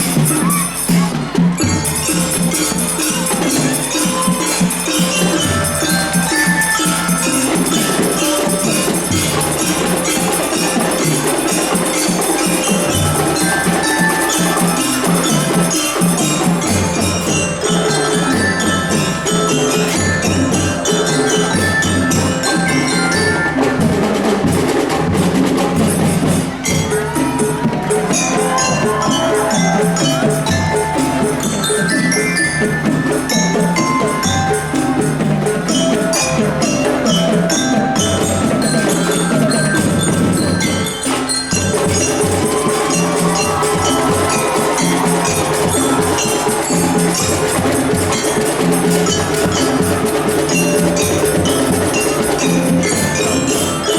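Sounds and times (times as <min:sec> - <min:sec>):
drums beating: 0:00.0 - 0:53.9
mallet percussion melody: 0:00.0 - 0:53.9.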